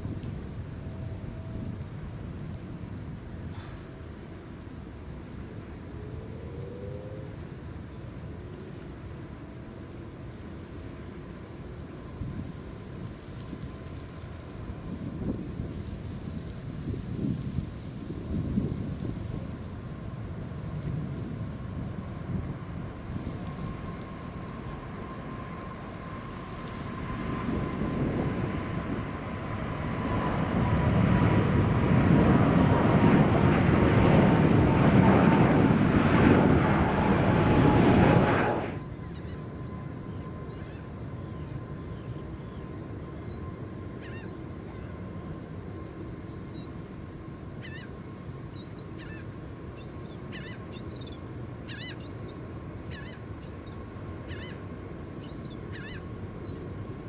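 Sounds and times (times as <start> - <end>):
jet engines roaring with whine: 0.0 - 57.0
insect chirring: 0.1 - 57.0.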